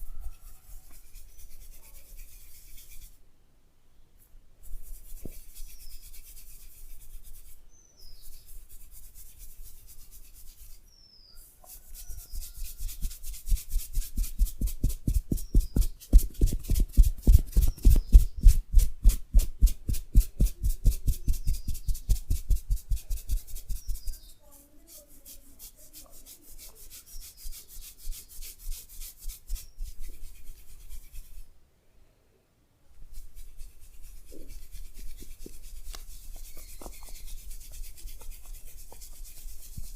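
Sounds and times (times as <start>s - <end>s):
hands rubbing hair: 0.0s - 3.2s, 4.6s - 31.5s, 33.0s - 39.9s.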